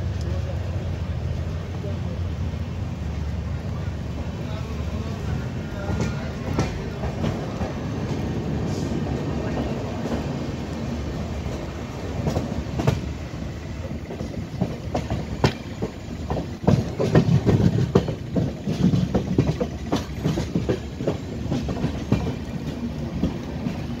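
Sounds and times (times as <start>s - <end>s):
train coach rumble: 0.0s - 24.0s
wheels clacking over rail joints: 3.6s - 24.0s.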